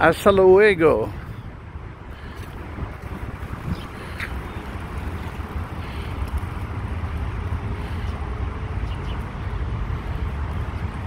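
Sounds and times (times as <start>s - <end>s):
low uneven outdoor rumble: 0.0s - 11.0s.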